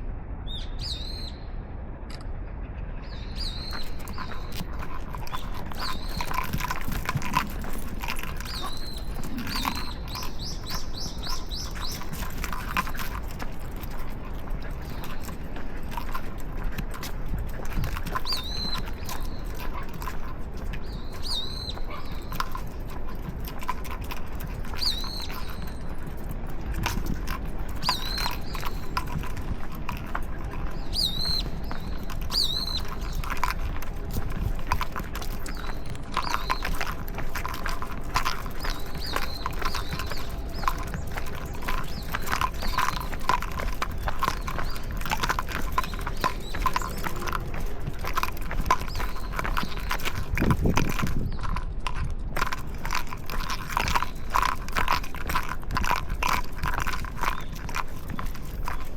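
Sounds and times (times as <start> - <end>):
dog claws clicking on pavement: 3.4 - 58.9
footsteps on pavement: 3.4 - 58.9.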